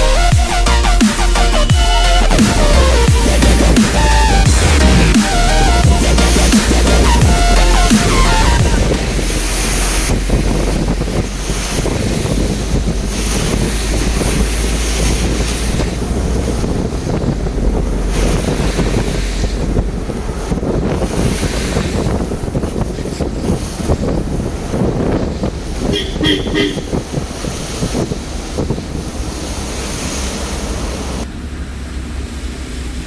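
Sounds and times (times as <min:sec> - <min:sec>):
wind buffeting microphone: 0:00.0 - 0:31.3.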